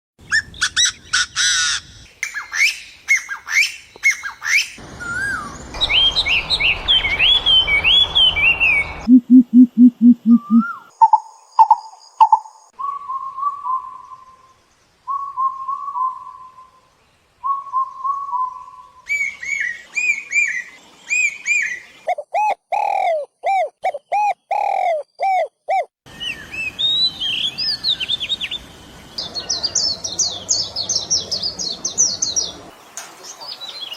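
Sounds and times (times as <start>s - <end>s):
songbirds singing and calling: 0.3s - 9.1s, 10.2s - 33.9s.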